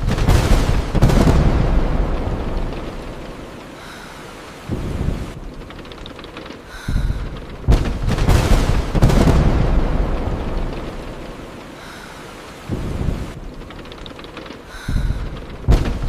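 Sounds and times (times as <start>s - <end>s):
rain on a windshield: 0.0s - 16.0s
thunder rumbling and cracking: 0.0s - 16.0s.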